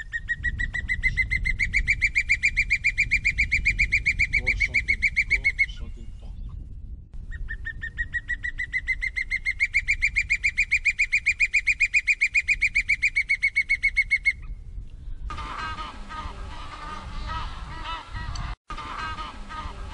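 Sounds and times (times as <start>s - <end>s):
hawk calling: 0.0s - 6.0s, 7.3s - 14.4s, 15.3s - 19.9s.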